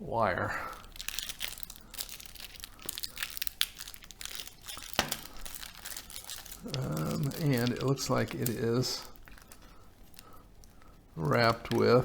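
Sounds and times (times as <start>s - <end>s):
tape crinkling and crackling: 0.3s - 12.0s
copper wire rustling: 0.6s - 12.0s.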